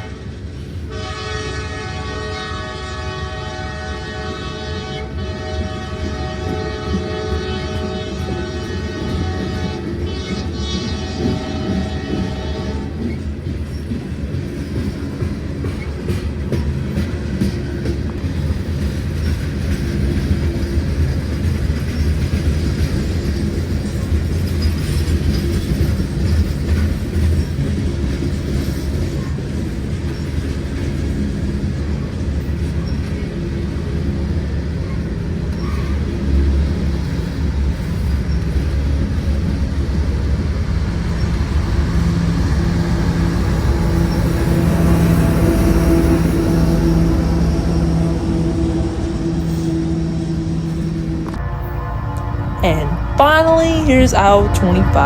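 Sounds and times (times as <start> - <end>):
train wheels rumbling on rails: 0.0 - 52.2
railcars clattering: 0.0 - 55.0.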